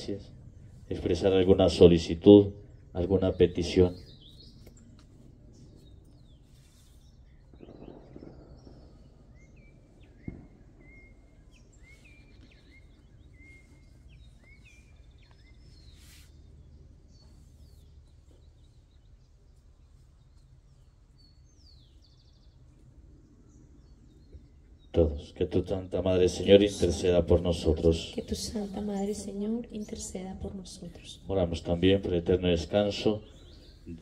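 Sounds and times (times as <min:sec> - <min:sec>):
bird chirping: 0:00.0 - 0:34.0
low background hum: 0:00.0 - 0:34.0.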